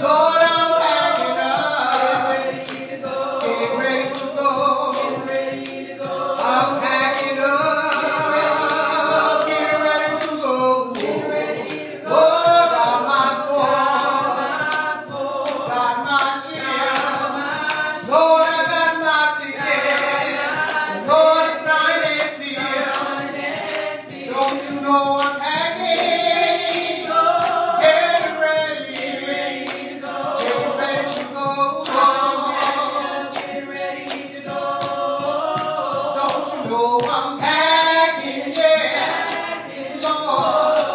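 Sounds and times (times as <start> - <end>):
group singing gospel in harmony: 0.0 - 40.9
sharp taps keeping a beat: 0.0 - 40.9.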